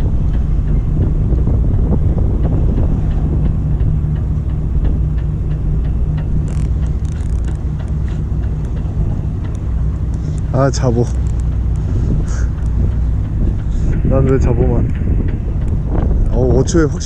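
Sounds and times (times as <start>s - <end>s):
boat engine humming: 0.0s - 17.0s
wind buffeting microphone: 0.0s - 17.0s.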